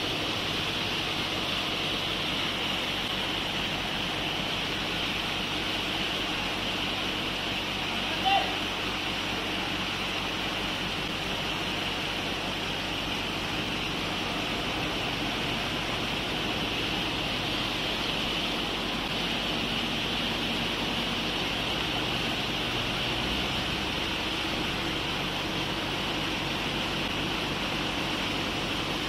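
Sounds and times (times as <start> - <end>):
low machine hum: 0.0 - 29.0
pressure hose jet splashing: 0.0 - 29.0
water gushing from pipe: 0.0 - 29.0.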